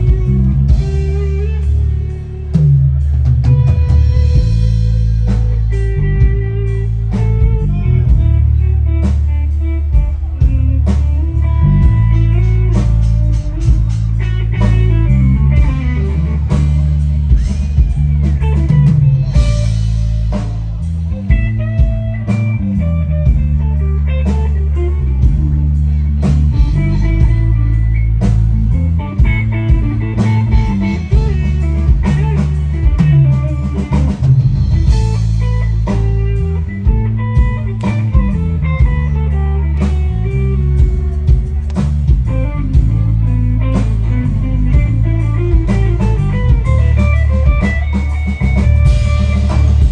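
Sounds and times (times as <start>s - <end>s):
drum kit beat: 0.0s - 49.9s
electric guitar: 0.0s - 49.9s
heavy bass line: 0.0s - 49.9s.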